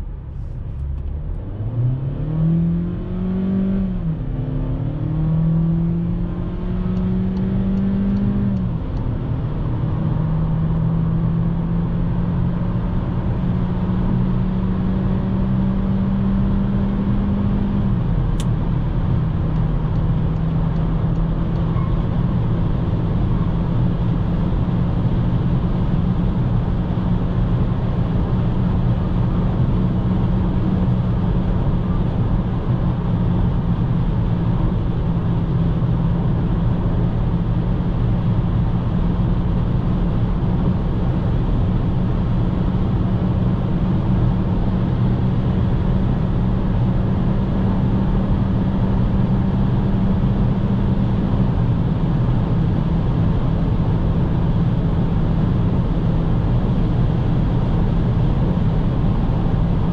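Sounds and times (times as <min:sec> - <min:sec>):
car engine low drone: 0:00.0 - 0:59.9.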